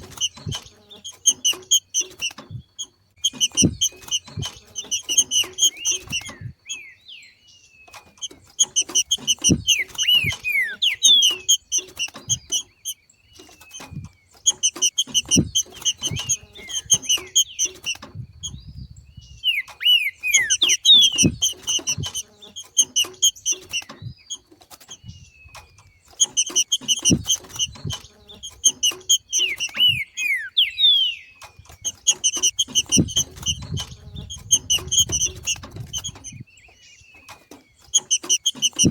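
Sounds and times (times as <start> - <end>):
bird chattering and whistling: 0.0 - 7.4, 8.2 - 38.9.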